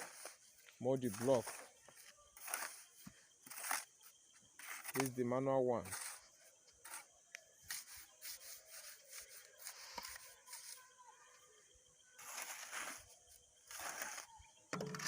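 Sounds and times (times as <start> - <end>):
scraping and rubbing of cement mix: 0.0 - 5.2, 5.8 - 11.0, 12.2 - 15.0.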